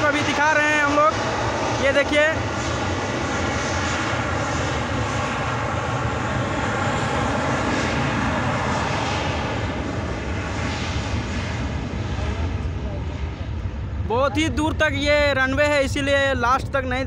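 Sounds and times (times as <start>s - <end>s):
jet engines at takeoff: 0.0s - 17.0s.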